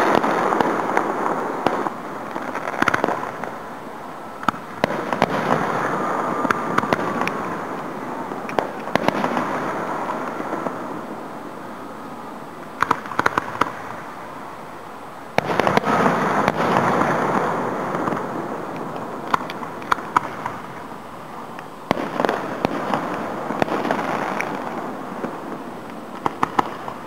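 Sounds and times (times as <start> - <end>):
firework cracks: 0.0 - 14.5, 15.2 - 27.0.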